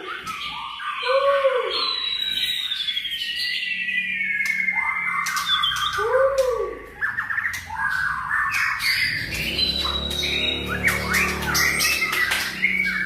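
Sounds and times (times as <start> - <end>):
bird singing varied song: 0.0 - 13.0.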